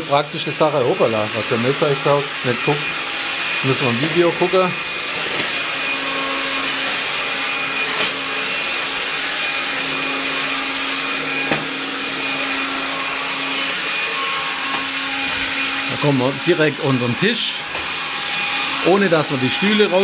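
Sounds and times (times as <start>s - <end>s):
stick vacuum running: 0.0s - 20.0s.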